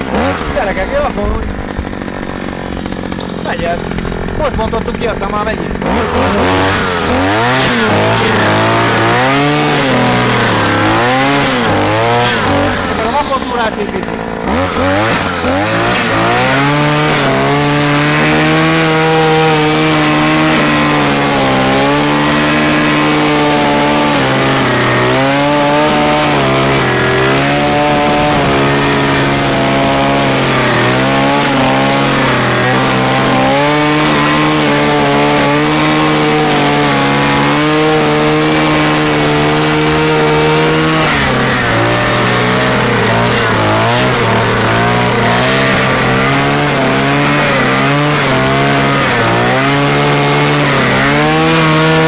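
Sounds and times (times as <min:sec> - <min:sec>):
brush cutter engine running: 0:00.0 - 0:52.0
trimmer line cutting grass: 0:00.0 - 0:52.0.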